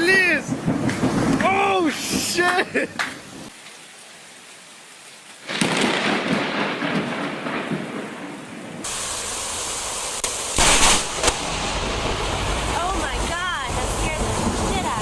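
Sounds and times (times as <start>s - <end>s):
thunderclap: 0.0s - 3.5s, 5.5s - 9.3s, 10.2s - 15.0s
rain hiss: 0.0s - 15.0s.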